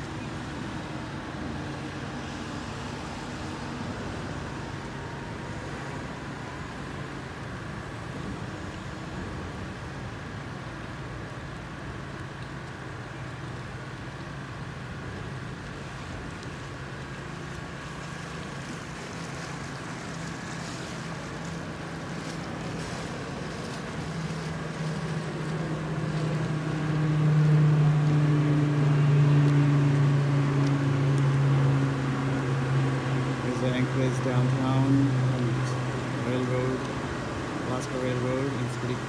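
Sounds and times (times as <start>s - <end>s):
creek flowing: 0.0s - 39.0s
large engine low hum: 0.0s - 39.0s.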